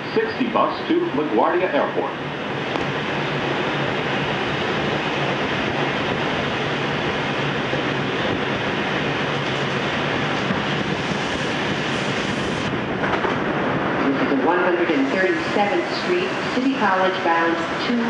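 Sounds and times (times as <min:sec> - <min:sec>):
subway car rumbling: 0:00.0 - 0:18.0.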